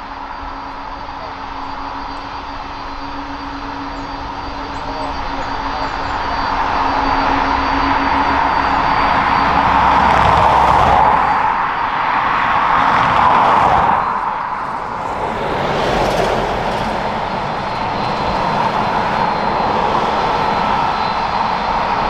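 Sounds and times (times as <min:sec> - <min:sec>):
jet engines hissing and whining: 0:00.0 - 0:22.0.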